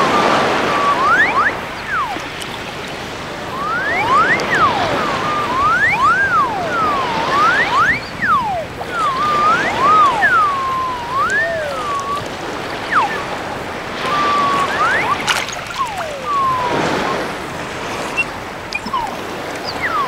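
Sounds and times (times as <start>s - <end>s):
sea water washing: 0.0s - 20.0s
water flute whistling: 0.0s - 20.0s.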